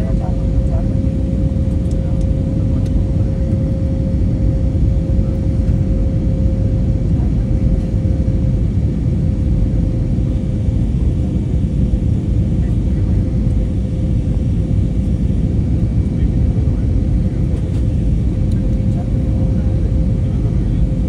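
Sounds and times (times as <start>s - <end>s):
engine and airflow rumble: 0.0s - 21.0s
steady cabin hum: 0.0s - 21.0s.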